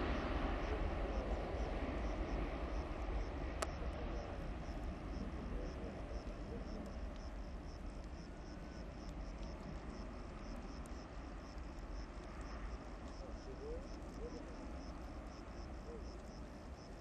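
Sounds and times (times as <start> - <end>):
distant jet engine roar: 0.0 - 17.0
insect chirping: 0.6 - 17.0.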